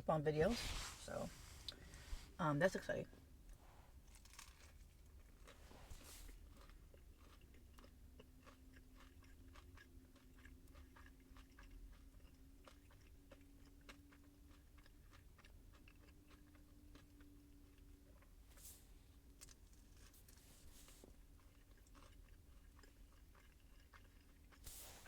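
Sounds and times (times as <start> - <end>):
faint steady hum: 0.0 - 25.0
close-up chewing of food: 0.5 - 2.4, 3.0 - 25.0.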